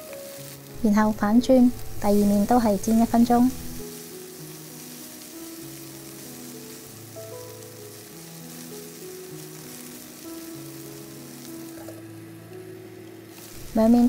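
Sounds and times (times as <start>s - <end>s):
chicken sizzling in oil: 0.0s - 14.0s
soft background music: 0.0s - 14.0s.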